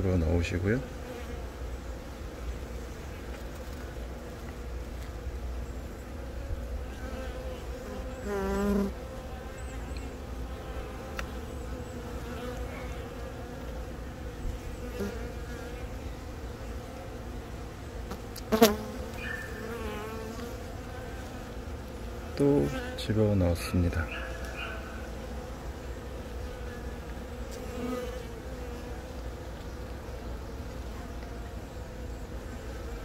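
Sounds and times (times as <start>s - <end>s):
honeybees buzzing: 0.0s - 33.0s.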